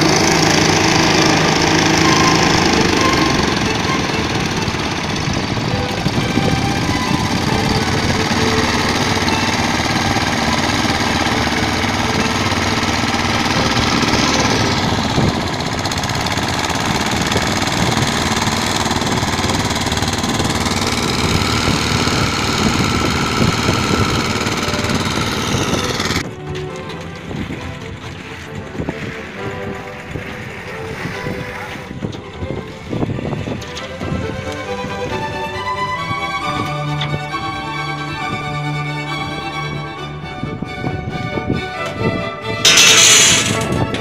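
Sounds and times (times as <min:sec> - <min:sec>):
outboard engine chugging: 0:00.0 - 0:41.3.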